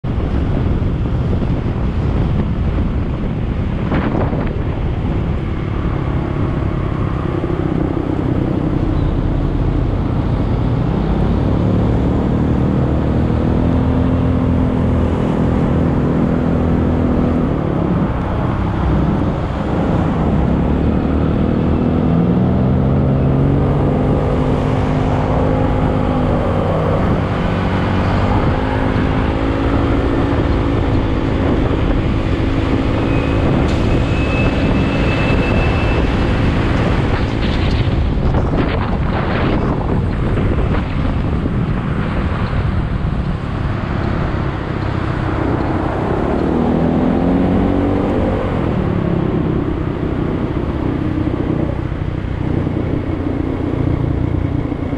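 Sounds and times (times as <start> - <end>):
steady rush of noise: 0.0 - 54.9.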